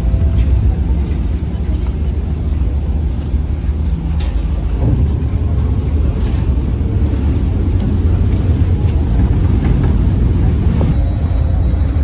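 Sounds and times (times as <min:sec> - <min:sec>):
ferry engine rumbling: 0:00.0 - 0:12.0
water noise: 0:00.0 - 0:12.0
wind: 0:00.0 - 0:12.0.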